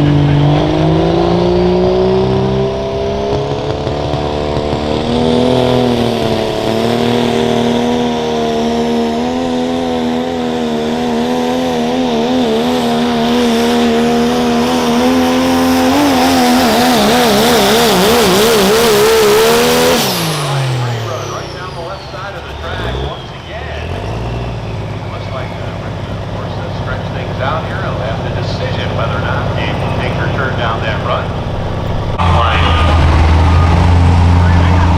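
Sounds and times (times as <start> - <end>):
diesel truck engine at full throttle: 0.0 - 34.9.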